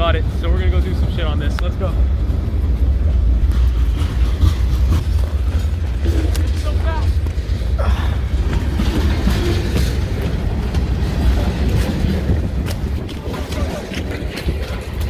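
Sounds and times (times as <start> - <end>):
train rumbling past: 0.0 - 15.0
wheels clicking on rails: 0.0 - 15.0.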